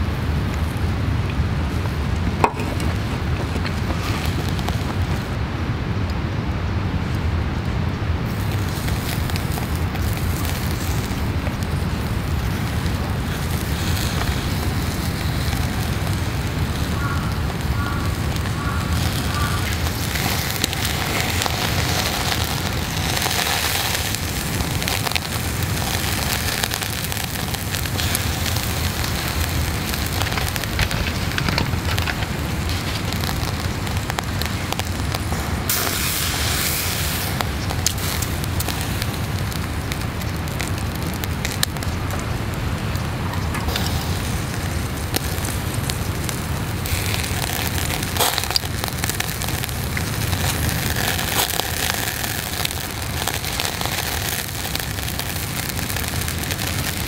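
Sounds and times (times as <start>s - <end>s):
meat sizzling on a grill: 0.0s - 5.8s, 8.0s - 57.0s
charcoal crackling: 0.0s - 57.0s.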